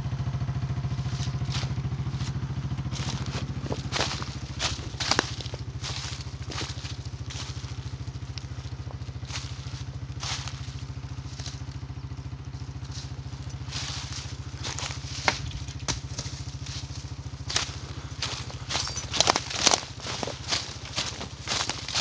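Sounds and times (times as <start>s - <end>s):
atv engine running: 0.0s - 22.0s
dry leaves crunching: 0.4s - 22.0s.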